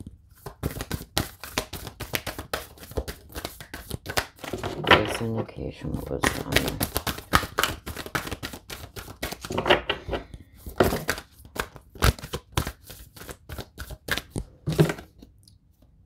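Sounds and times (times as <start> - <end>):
cards being shuffled: 0.3 - 15.3.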